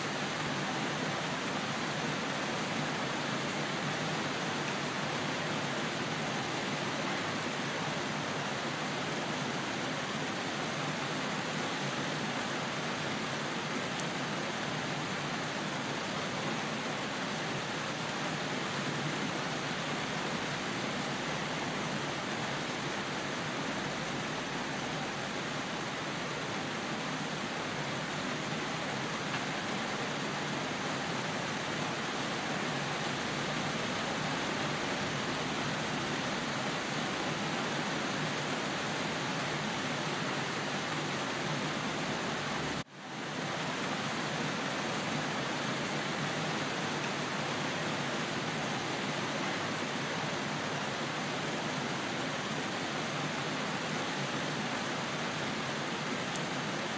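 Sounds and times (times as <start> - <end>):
steady rain hissing: 0.0 - 56.9.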